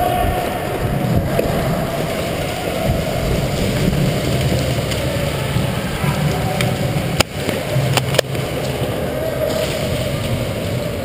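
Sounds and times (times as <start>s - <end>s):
steady rumbling noise: 0.0s - 11.0s.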